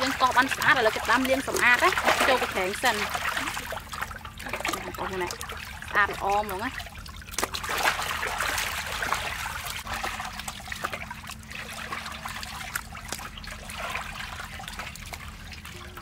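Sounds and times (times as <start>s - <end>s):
water dripping: 0.0s - 16.0s
water splashing and trickling: 0.0s - 16.0s.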